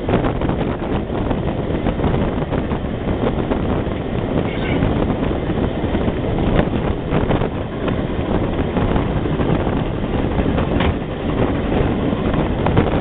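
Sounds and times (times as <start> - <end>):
train rumbling on track: 0.0 - 13.0
wind buffeting microphone: 0.0 - 13.0.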